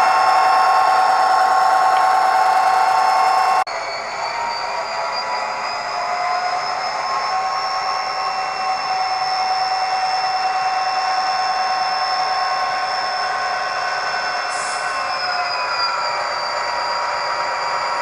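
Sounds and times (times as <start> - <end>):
turbocharger whine: 0.0 - 18.0.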